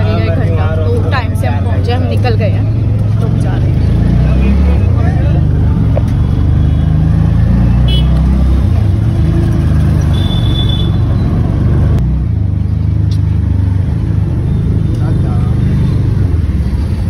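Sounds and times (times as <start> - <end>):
auto-rickshaw engine running: 0.0 - 17.0
street traffic: 0.0 - 17.0.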